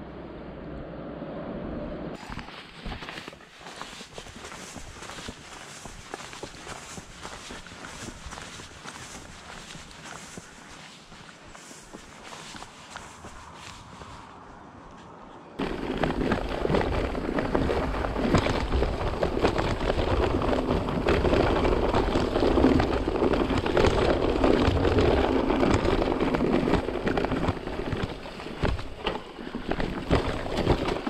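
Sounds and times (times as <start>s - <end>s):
bike rattling over roots: 2.2s - 14.2s, 15.6s - 31.0s
bike tyres crunching dry leaves: 2.2s - 14.6s, 15.6s - 31.0s.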